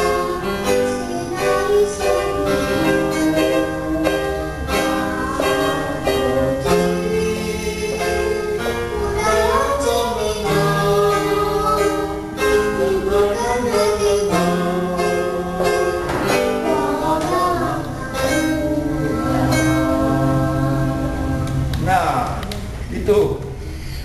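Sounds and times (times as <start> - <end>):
girl singing into microphone: 0.0 - 21.7
electronic keyboard accompaniment: 0.0 - 22.9.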